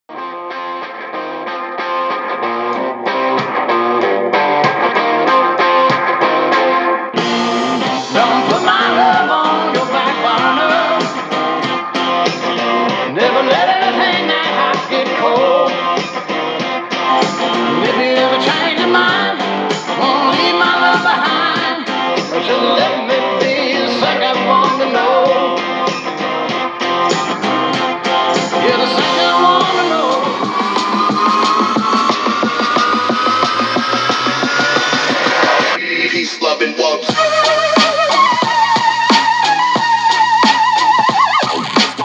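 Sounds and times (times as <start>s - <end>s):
guitar rock song on car speaker: 0.1s - 42.0s.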